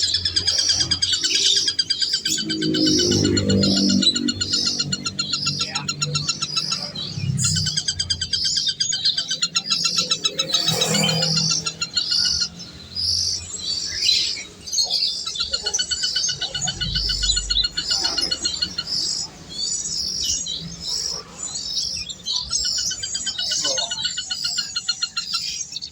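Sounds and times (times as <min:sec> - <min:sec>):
birds chirping: 0:00.0 - 0:25.9
rapid bird trills: 0:00.0 - 0:25.9.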